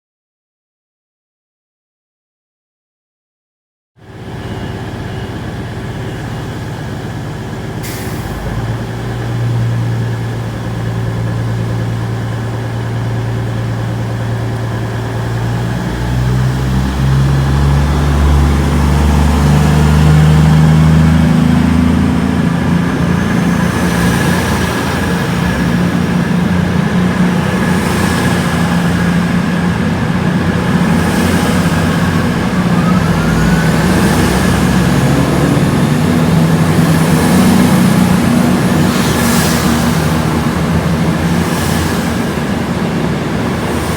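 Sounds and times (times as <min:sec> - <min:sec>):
train low drone: 0:04.0 - 0:43.9.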